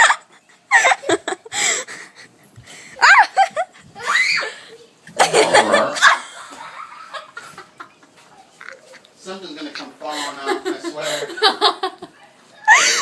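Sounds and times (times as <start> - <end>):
laughter and giggling: 0.0 - 2.3, 3.0 - 9.1, 10.0 - 13.0.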